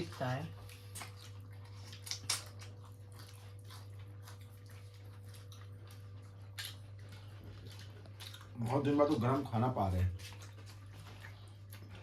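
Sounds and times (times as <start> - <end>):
person chewing crunchy food: 0.5 - 12.0.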